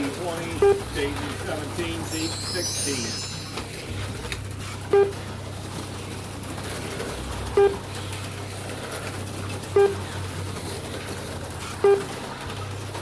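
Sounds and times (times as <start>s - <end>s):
low hum of slot car track: 0.0s - 13.0s.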